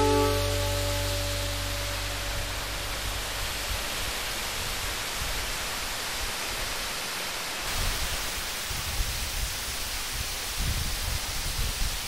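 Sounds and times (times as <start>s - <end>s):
stream water rushing: 0.0s - 11.7s.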